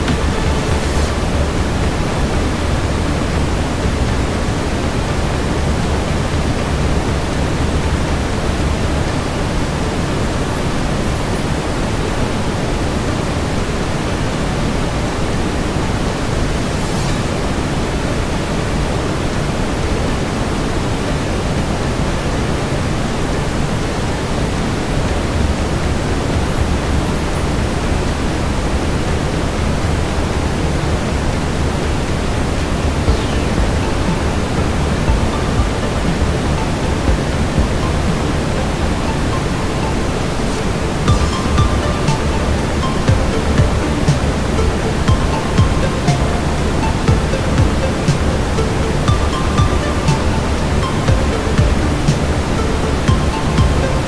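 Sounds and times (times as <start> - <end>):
brown noise hiss: 0.0 - 54.0
fireplace ambience: 0.0 - 54.0.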